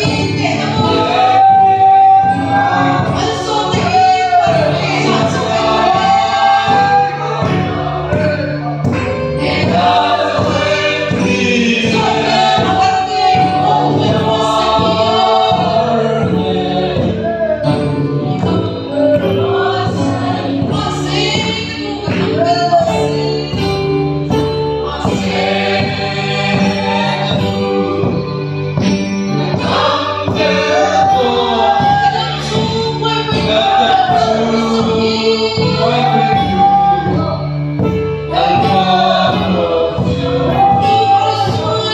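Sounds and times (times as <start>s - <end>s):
congregation singing: 0.0s - 41.9s.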